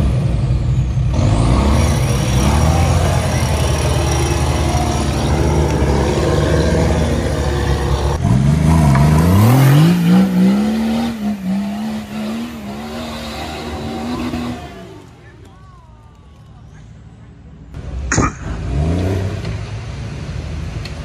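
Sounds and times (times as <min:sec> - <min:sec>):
buggy engine revving up: 0:00.0 - 0:15.2, 0:17.8 - 0:20.6
off-road vehicle engine running: 0:00.0 - 0:21.0.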